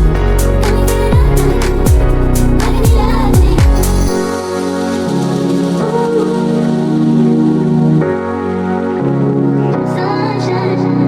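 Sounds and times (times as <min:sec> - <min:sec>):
sustained synth chords: 0:00.0 - 0:09.9.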